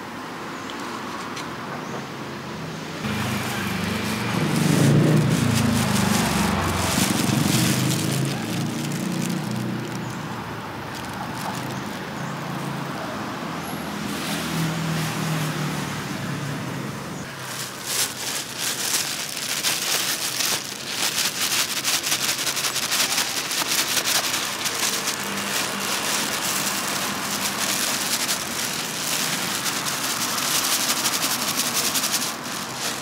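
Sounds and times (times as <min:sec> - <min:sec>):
traffic hum: 0:00.0 - 0:33.0
vehicle engine rumble: 0:03.0 - 0:33.0.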